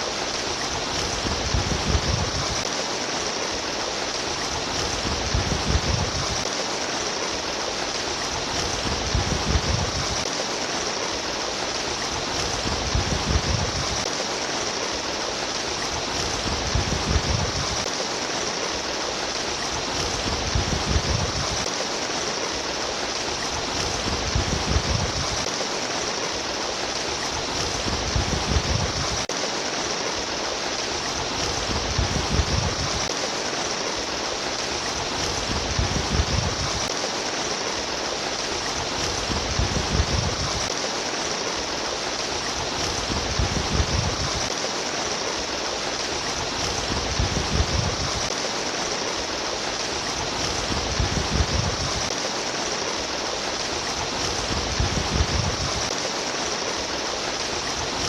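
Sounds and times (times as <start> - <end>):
low water gurgling: 0.0 - 58.0
water trickling and babbling: 0.0 - 58.0.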